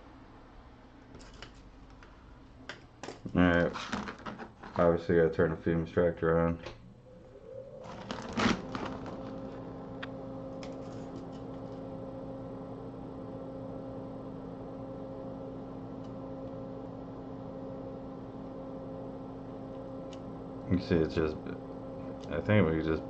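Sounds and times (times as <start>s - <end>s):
extractor fan humming: 0.0s - 23.0s.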